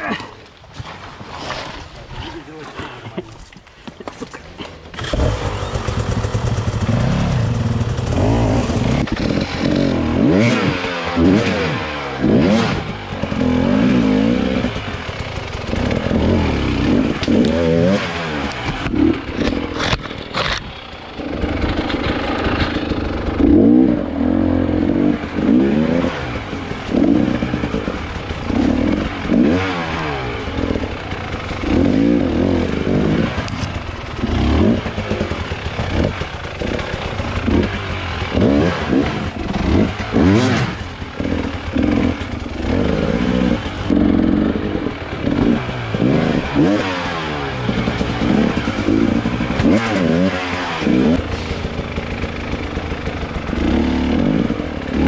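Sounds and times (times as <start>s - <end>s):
motorcycle engine revving: 4.6s - 55.0s.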